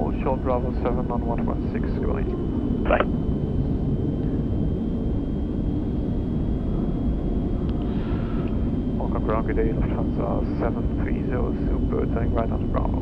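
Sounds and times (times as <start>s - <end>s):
high-pitched whine: 0.0s - 13.0s
low cockpit rumble: 0.0s - 13.0s.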